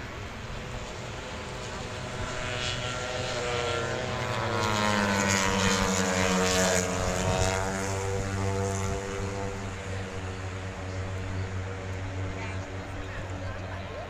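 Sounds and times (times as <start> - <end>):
engine droning past: 0.0 - 14.0.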